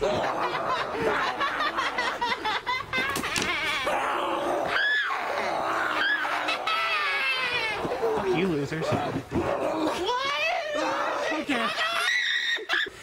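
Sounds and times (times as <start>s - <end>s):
people laughing and shrieking: 0.0s - 13.0s
rising and falling cry: 0.0s - 13.0s.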